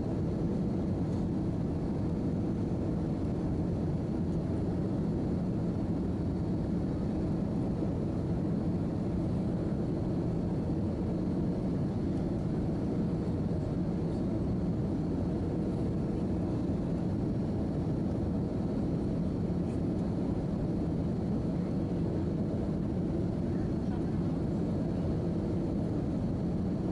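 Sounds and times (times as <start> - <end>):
airliner cabin engine drone: 0.0 - 26.9
faint steady whine: 0.0 - 26.9.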